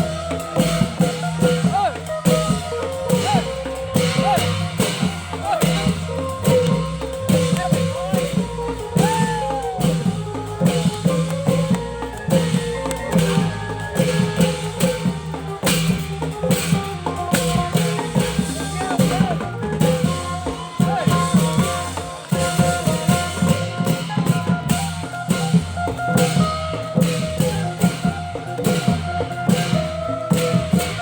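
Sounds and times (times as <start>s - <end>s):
fast drum strokes: 0.0s - 31.0s.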